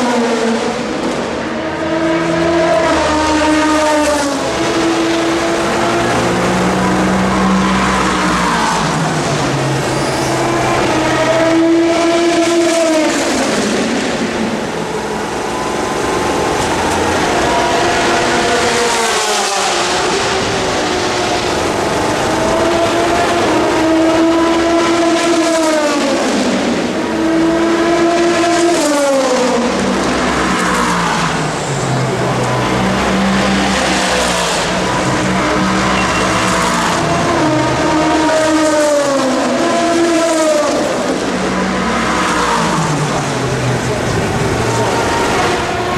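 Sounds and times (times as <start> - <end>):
racing car engines passing by: 0.0 - 45.9.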